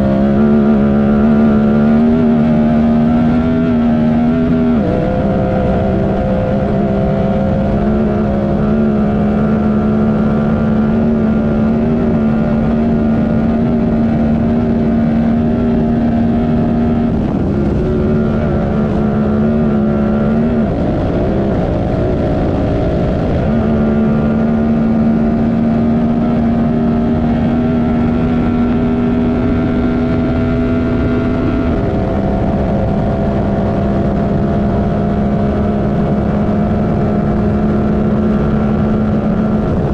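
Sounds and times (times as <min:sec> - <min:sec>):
utv engine running: 0:00.0 - 0:39.9.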